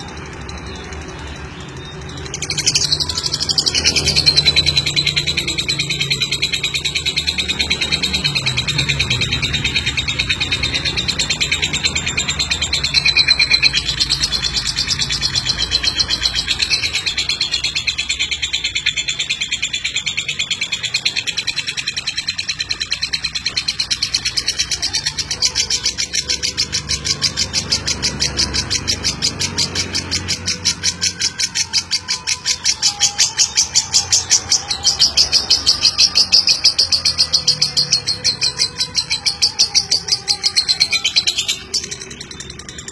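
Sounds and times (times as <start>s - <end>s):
bird chattering song: 0.0s - 42.9s.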